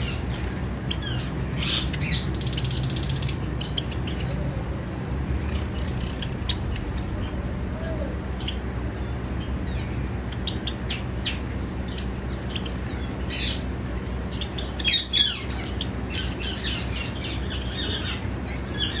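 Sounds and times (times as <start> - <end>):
sparrows chirping: 0.0 - 19.0
steady low hum: 0.0 - 19.0.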